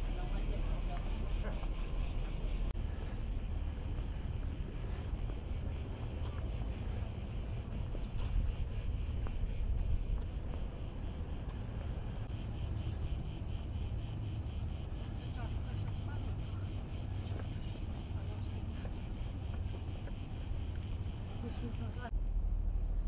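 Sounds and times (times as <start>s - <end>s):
cicadas buzzing: 0.0s - 22.1s.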